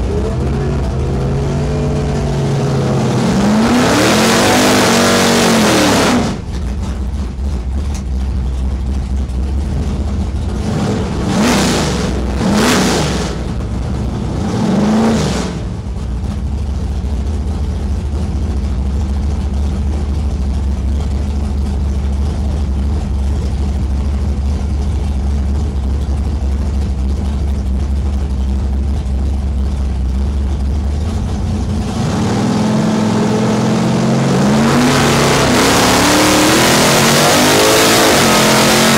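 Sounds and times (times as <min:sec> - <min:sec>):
truck engine revving and idling: 0:00.0 - 0:38.9.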